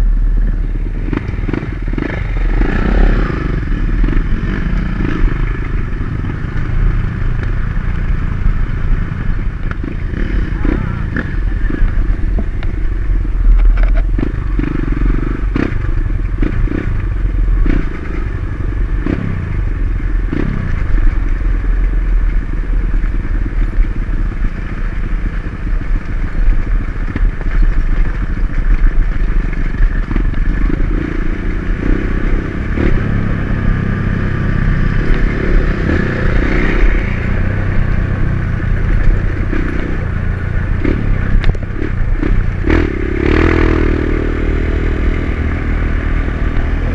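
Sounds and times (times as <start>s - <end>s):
dirt bike engine revving: 0.0s - 12.9s, 14.1s - 21.4s, 28.0s - 46.9s.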